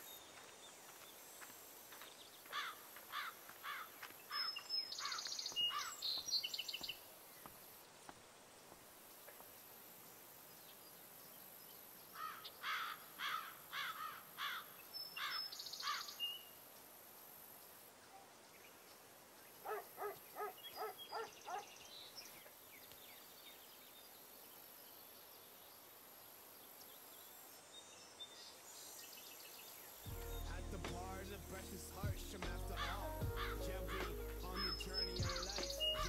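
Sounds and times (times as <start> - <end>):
songbird singing: 0.0 - 8.1, 9.0 - 36.0
faint outdoor background: 0.0 - 36.0.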